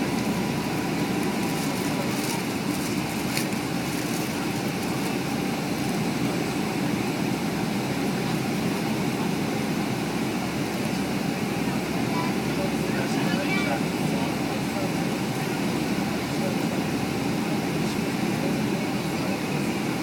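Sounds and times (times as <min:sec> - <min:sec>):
airliner cabin engine and airflow noise: 0:00.0 - 0:20.0.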